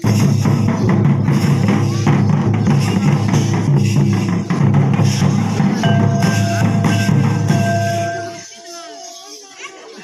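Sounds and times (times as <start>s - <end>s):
loud steady drumming: 0.0s - 8.7s.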